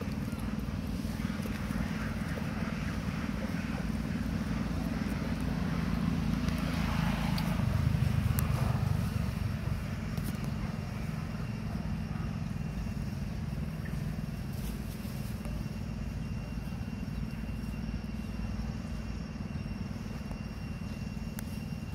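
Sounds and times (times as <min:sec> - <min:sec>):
low engine rumble: 0:00.0 - 0:21.9.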